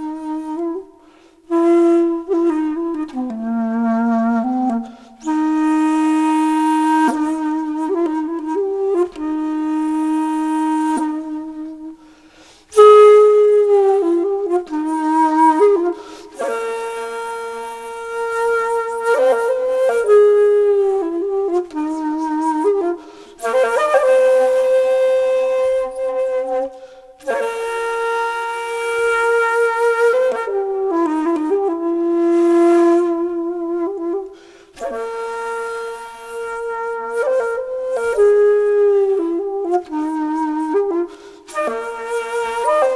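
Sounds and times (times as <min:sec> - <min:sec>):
slow solo flute melody: 0:00.0 - 0:42.9.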